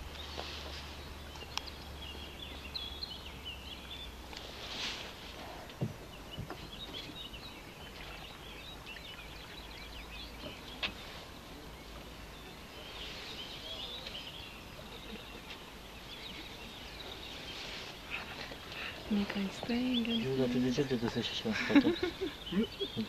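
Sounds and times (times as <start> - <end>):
birds singing and chirping: 0.0 - 23.0.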